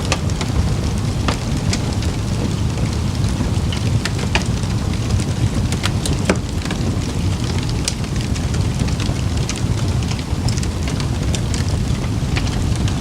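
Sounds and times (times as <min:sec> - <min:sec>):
campfire crackling and popping: 0:00.0 - 0:13.0
low rumble: 0:00.0 - 0:13.0.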